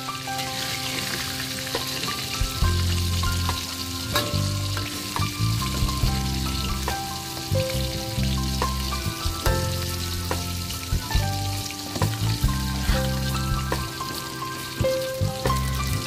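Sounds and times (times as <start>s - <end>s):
chicken sizzling in hot oil: 0.0s - 16.0s
music with bass line: 2.4s - 16.0s.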